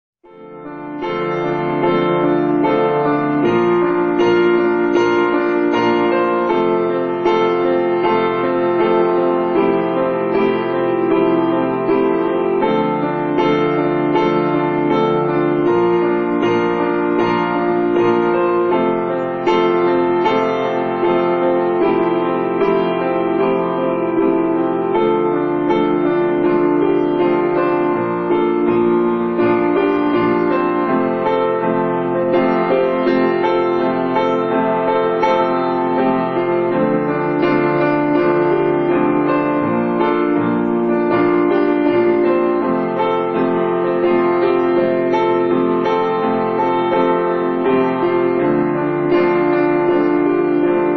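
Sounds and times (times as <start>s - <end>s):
piano music: 0.2s - 50.9s.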